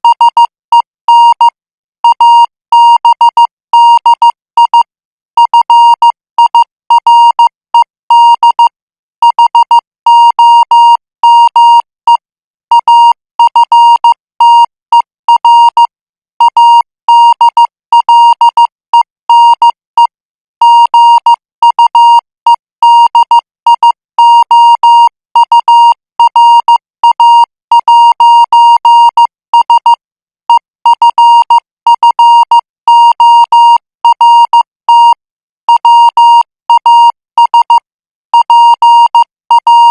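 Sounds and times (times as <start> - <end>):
morse code beeping: 0.0 - 39.9.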